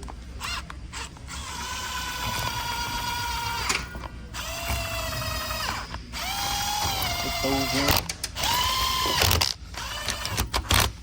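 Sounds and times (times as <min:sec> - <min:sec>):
power driver motor whine: 0:00.4 - 0:10.5.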